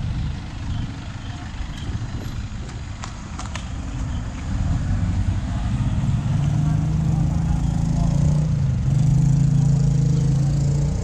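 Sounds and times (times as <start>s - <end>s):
street traffic rumbling: 0.0s - 11.0s.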